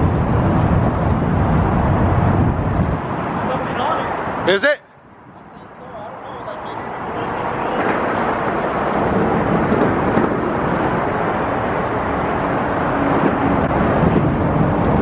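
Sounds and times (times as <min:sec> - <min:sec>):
propeller churning water: 0:00.0 - 0:15.0.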